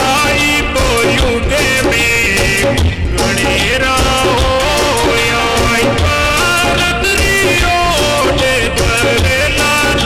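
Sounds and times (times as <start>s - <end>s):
devotional song with gliding melody: 0.0s - 10.0s
steady beat: 0.0s - 10.0s.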